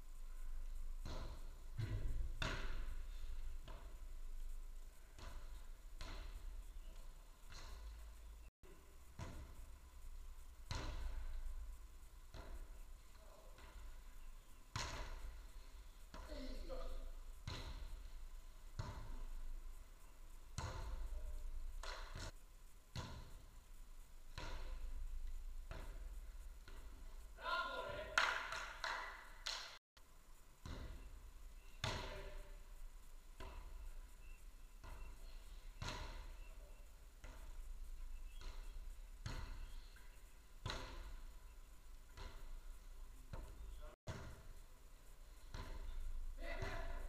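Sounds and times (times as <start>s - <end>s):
ball thumps echoing in hall: 0.3s - 8.3s, 9.1s - 23.5s, 24.2s - 29.8s, 30.6s - 32.7s, 33.3s - 34.0s, 34.8s - 41.4s, 42.0s - 44.6s, 45.3s - 47.0s.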